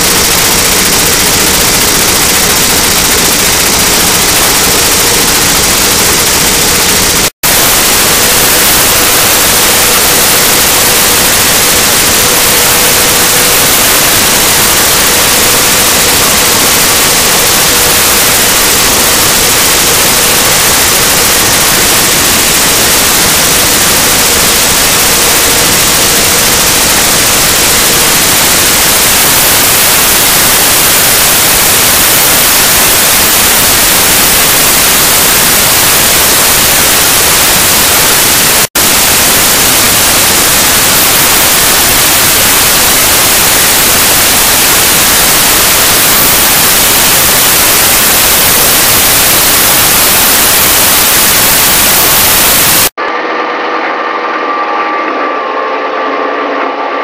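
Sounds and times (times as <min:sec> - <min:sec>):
mill grinding corn cobs: 0:00.0 - 0:55.8.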